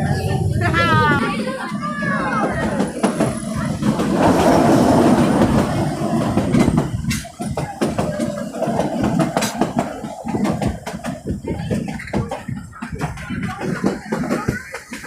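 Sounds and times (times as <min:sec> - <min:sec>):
train rumbling on rails: 0:00.0 - 0:15.0
wheels clicking and knocking: 0:00.0 - 0:15.0.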